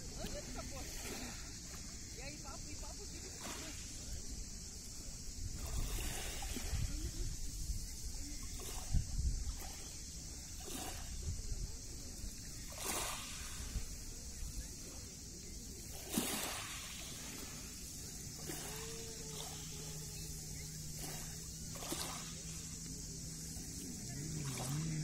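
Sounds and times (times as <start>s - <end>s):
small waves lapping on pebbles: 0.0s - 25.0s.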